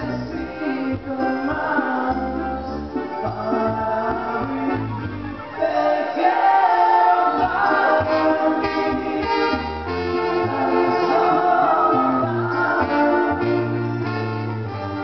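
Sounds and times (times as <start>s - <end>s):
live band playing: 0.0s - 15.0s
person singing: 0.0s - 15.0s.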